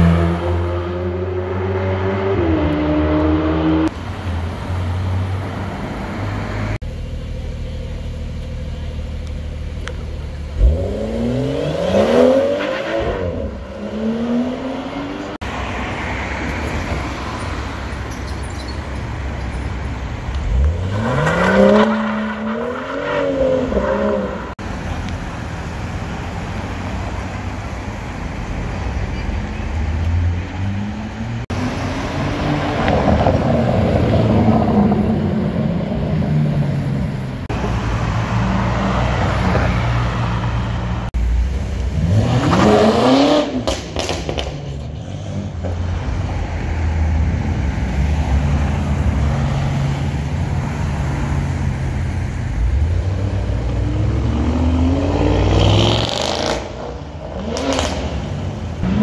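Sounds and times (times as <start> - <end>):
sports cars passing: 0.0 - 6.8, 9.8 - 59.0.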